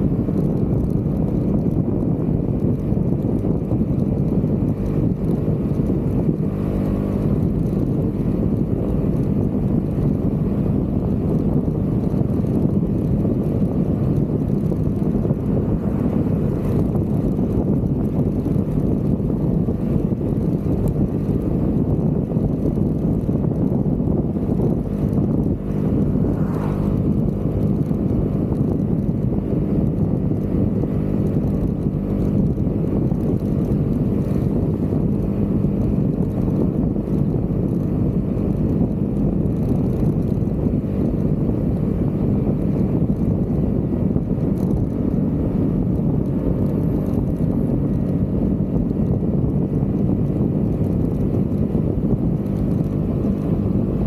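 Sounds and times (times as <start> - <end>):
scooter engine running: 0.0 - 54.0
wind noise on microphone: 0.0 - 54.0.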